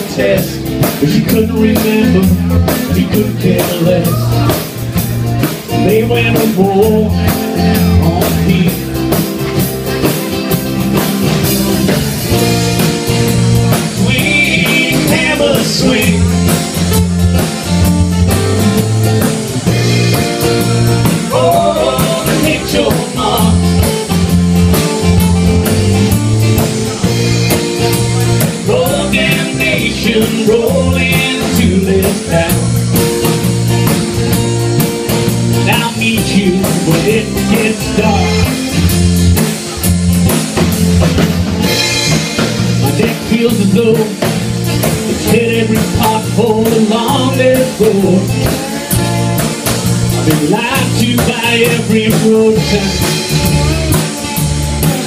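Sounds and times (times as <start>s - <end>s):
drum kit beat: 0.0s - 55.0s
strummed acoustic guitars: 0.0s - 55.0s.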